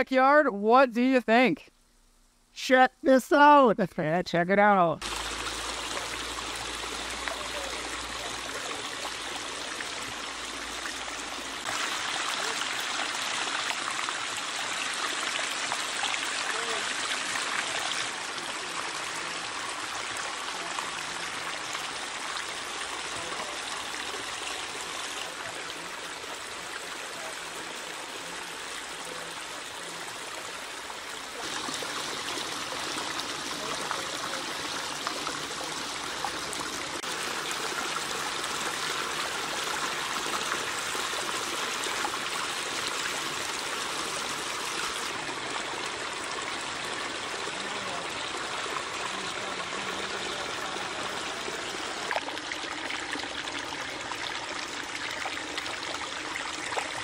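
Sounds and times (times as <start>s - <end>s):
waterfall splashing into basin: 5.0s - 57.0s.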